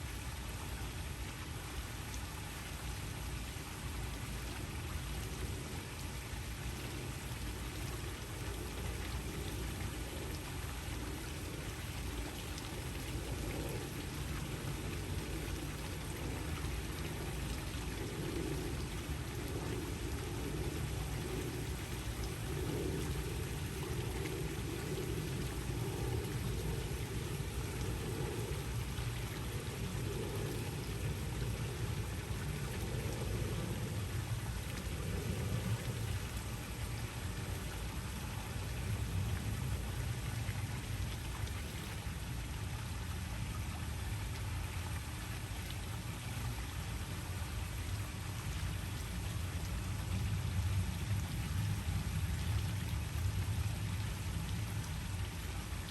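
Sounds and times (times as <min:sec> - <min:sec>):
waterfall: 0:00.0 - 0:55.9.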